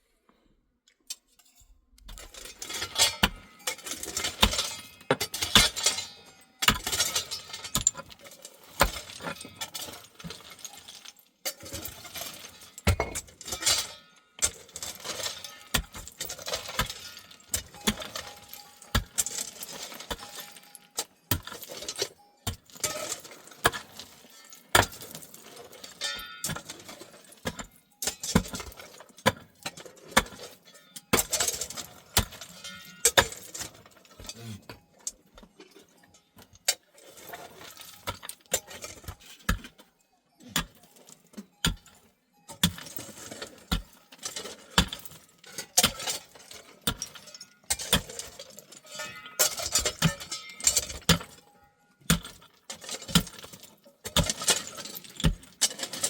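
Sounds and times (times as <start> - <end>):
hard objects clinking and scraping: 0.9 - 56.0.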